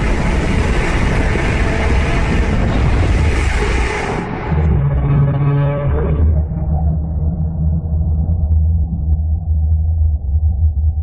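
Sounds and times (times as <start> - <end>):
deep monster rumble: 0.0 - 11.0.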